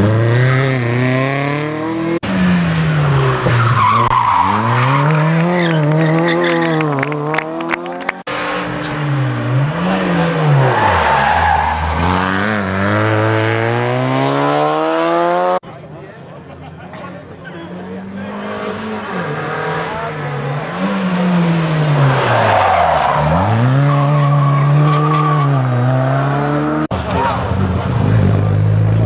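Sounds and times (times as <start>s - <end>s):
rally car engines revving: 0.0s - 15.6s, 16.4s - 29.0s.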